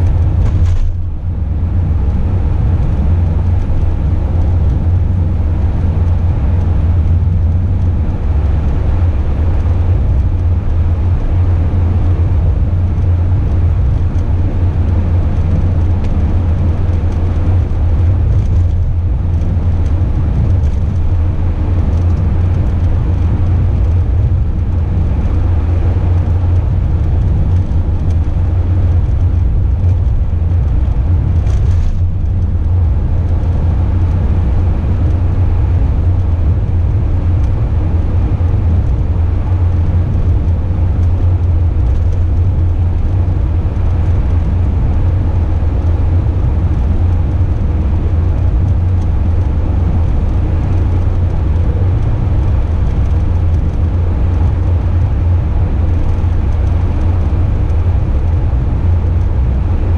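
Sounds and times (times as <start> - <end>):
vehicle engine and tyre rumble: 0.0 - 59.9.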